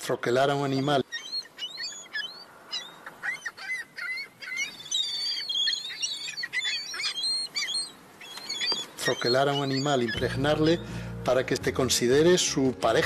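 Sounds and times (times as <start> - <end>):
seabird chicks peeping: 0.5 - 11.0.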